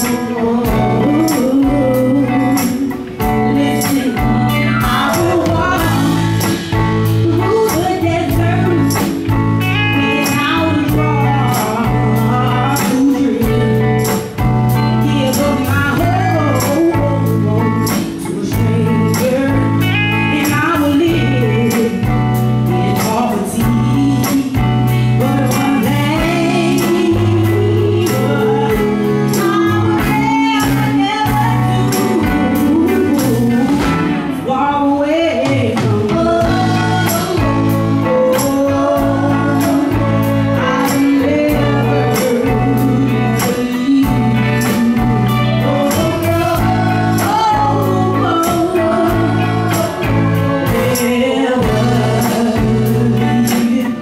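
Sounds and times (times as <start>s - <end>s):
bass guitar: 0.0s - 54.0s
drum kit with cymbal beat: 0.0s - 54.0s
electric guitars: 0.0s - 54.0s
lead vocal singing: 0.0s - 54.0s.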